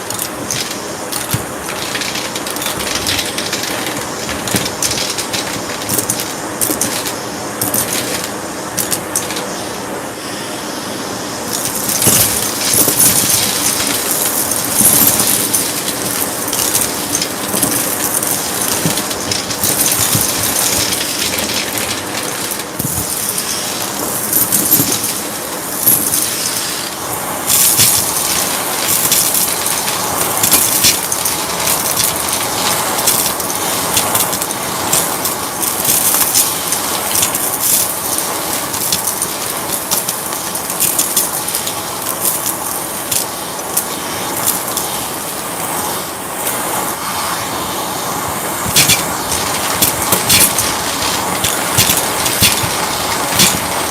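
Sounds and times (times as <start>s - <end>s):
vacuum clicks and rattles: 0.0s - 9.6s, 11.5s - 44.9s, 48.6s - 53.9s
vacuum cleaner running: 0.0s - 53.9s.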